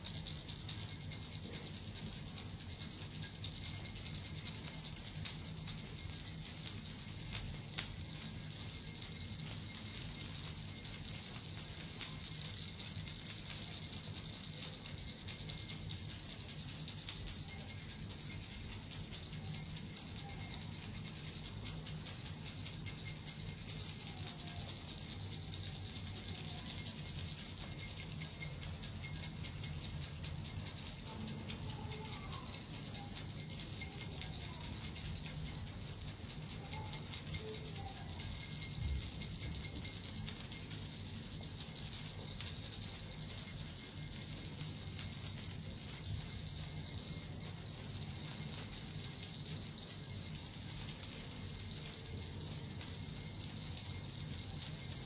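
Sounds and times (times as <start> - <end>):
small jingle bells shaken: 0.0 - 55.0.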